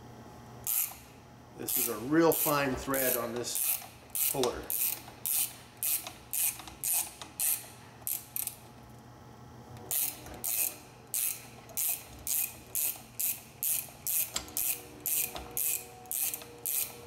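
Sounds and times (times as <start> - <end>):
ratchet wrench clicking: 0.6 - 8.6, 9.9 - 17.0.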